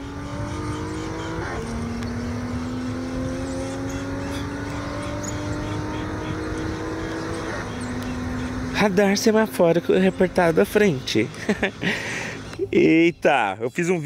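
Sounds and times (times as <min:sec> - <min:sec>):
car engine accelerating: 0:00.0 - 0:12.9.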